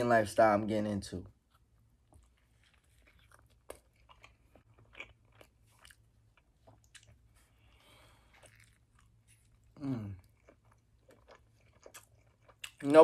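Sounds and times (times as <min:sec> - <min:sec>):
chewing with soft crunches: 0:01.2 - 0:13.0.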